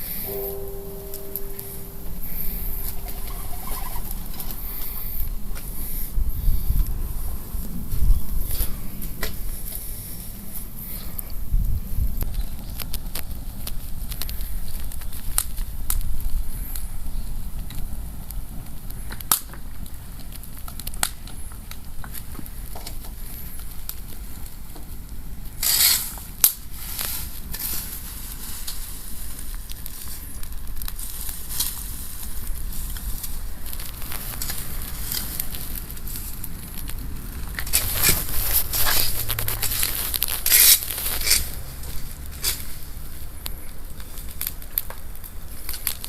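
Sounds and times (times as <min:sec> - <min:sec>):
wood fire crackling and popping: 0:00.0 - 0:46.0.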